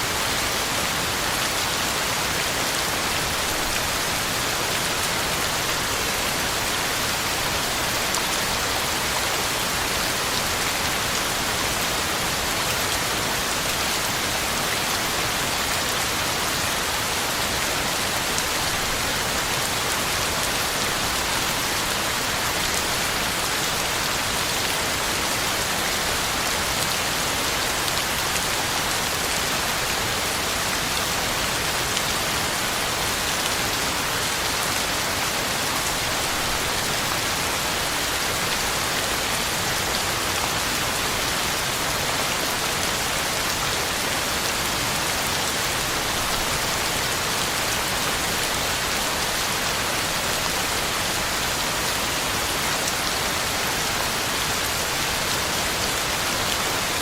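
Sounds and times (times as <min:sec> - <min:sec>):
heavy rain on ground and leaves: 0:00.0 - 0:57.0.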